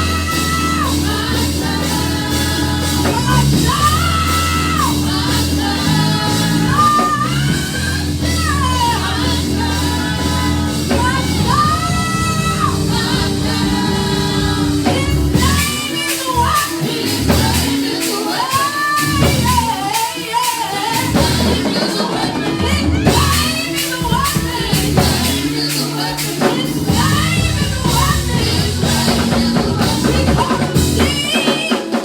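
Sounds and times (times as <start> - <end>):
worship band playing: 0.0 - 32.0.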